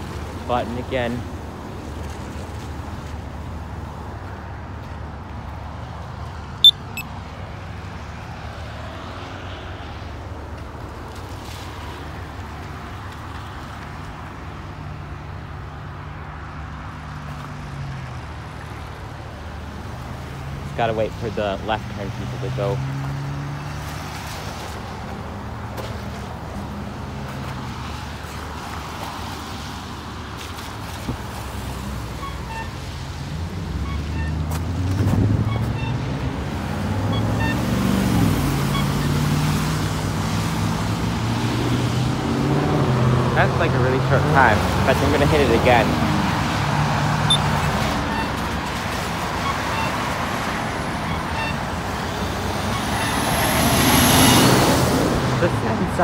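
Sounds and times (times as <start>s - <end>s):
cars passing on wet road: 0.0s - 56.0s.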